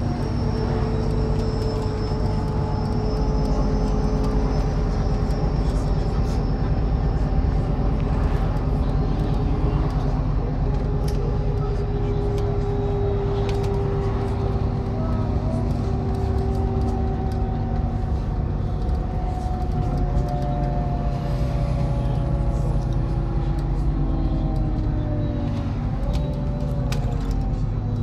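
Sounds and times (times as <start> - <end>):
bus engine rumble: 0.0 - 28.0
drivetrain whine: 0.0 - 28.0.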